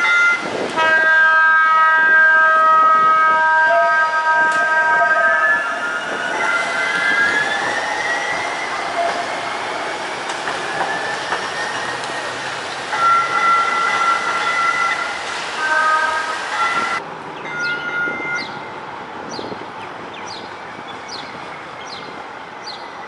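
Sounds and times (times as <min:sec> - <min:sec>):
street noise: 0:00.0 - 0:23.0
streetcar electric whine: 0:00.0 - 0:23.0.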